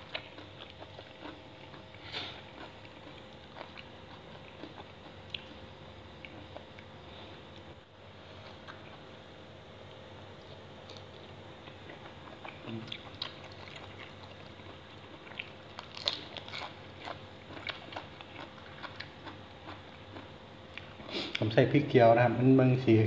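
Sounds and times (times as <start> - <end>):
crunching and chewing shrimp: 0.0 - 9.2, 9.8 - 21.6.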